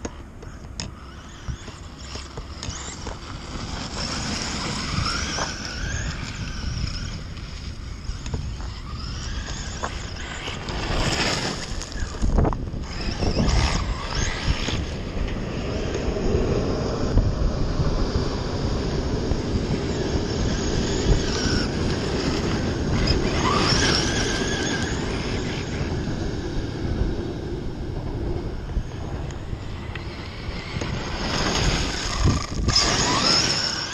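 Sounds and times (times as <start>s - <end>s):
rc truck motor whining: 0.0s - 33.9s
wind on microphone: 0.7s - 33.9s.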